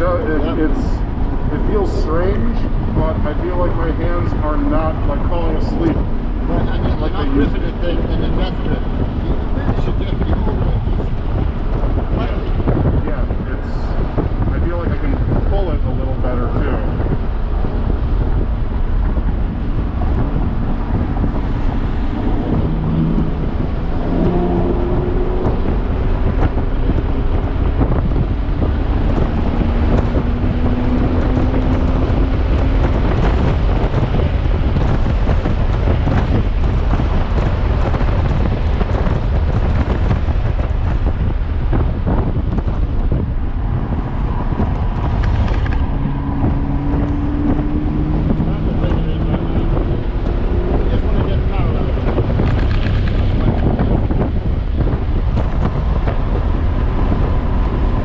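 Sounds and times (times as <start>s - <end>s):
car engine accelerating: 0.0s - 58.0s
wind and road noise in car cabin: 0.0s - 58.0s.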